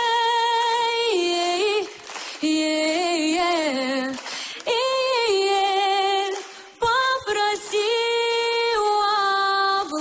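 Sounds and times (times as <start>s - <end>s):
woman singing a cappella: 0.0s - 10.0s.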